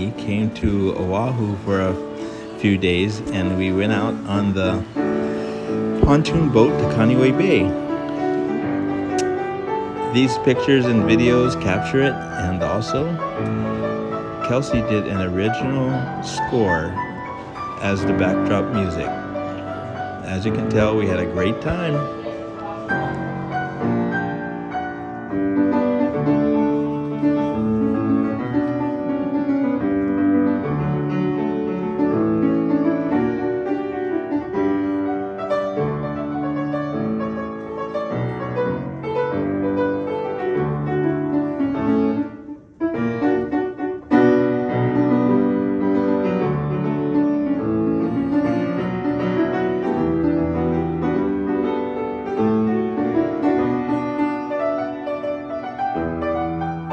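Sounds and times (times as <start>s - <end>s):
solo piano music: 0.0s - 56.9s.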